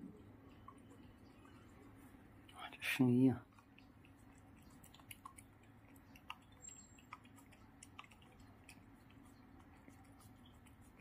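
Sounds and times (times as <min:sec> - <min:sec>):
cat tongue lapping clicks: 0:00.0 - 0:02.6, 0:03.4 - 0:11.0.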